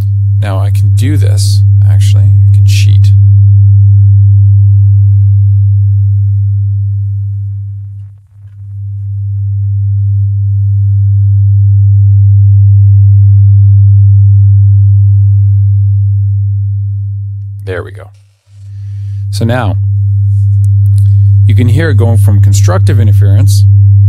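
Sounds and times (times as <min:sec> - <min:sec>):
low steady sine hum: 0:00.0 - 0:24.0.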